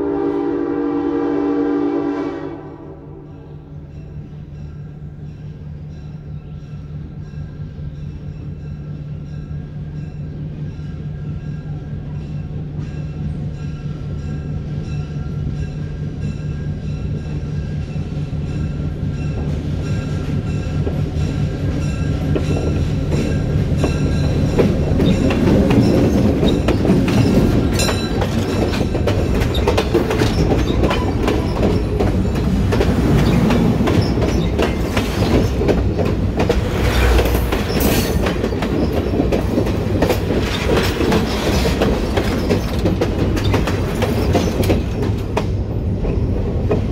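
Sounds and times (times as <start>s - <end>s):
diesel train engine drone: 0.0s - 46.9s
train wheels clacking on rails: 3.9s - 46.9s.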